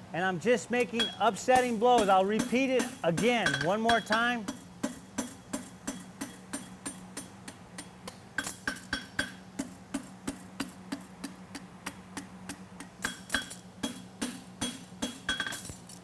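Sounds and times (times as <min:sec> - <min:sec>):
steady low hum: 0:00.0 - 0:16.0
hammer striking horseshoe on anvil: 0:00.8 - 0:15.8.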